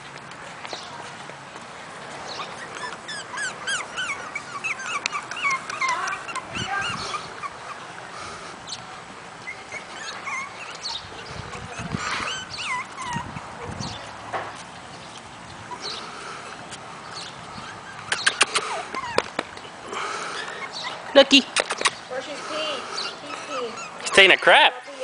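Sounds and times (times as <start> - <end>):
puppies whimpering and yipping: 2.1 - 25.0.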